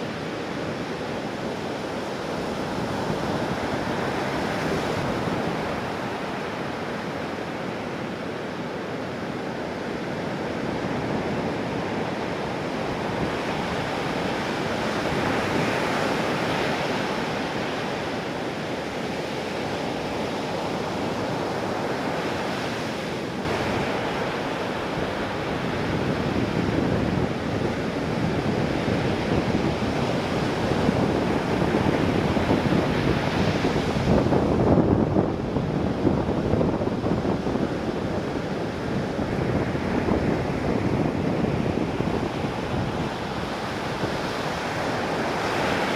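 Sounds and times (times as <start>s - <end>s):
ocean surf breaking: 0.0s - 45.9s
wind on microphone: 0.0s - 45.9s.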